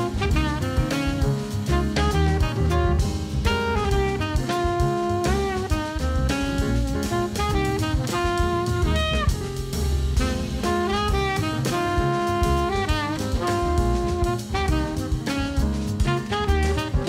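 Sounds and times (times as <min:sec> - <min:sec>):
drum kit: 0:00.0 - 0:17.0
horn melody with bending notes: 0:00.0 - 0:17.0.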